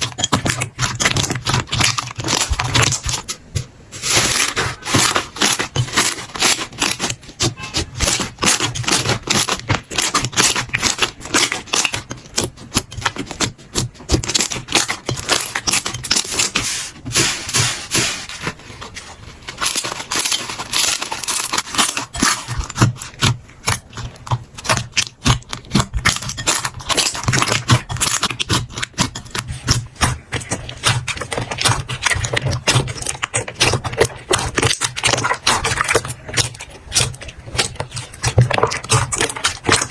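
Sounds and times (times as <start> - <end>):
slime squeezed crackling and popping: 0.0 - 16.6, 19.6 - 39.9.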